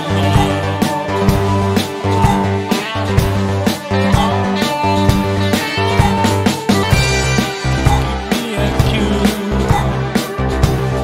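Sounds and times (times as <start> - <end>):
held bass notes: 0.0 - 11.0
steady beat: 0.0 - 11.0
sustained pitched tones: 0.0 - 11.0.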